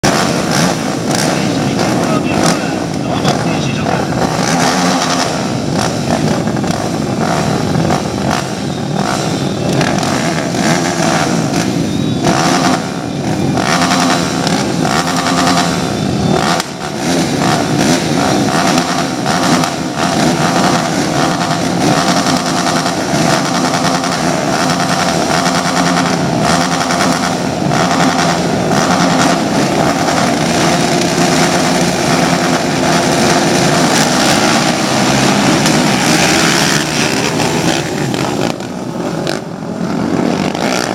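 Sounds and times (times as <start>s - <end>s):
atv engine running loudly: 0.0s - 40.9s.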